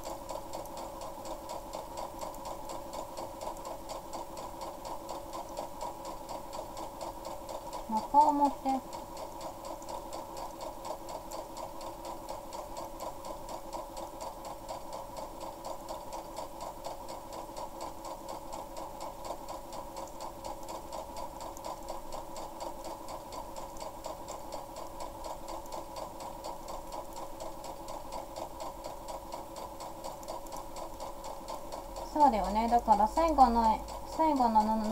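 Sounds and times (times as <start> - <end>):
electric sewing machine stitching: 0.0 - 34.9.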